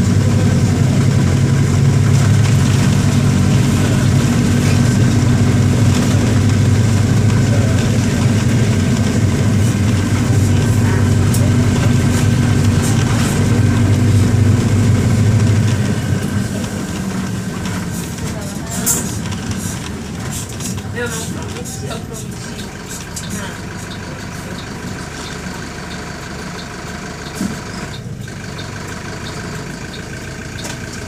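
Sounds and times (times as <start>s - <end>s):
diesel bus engine running: 0.0s - 31.0s.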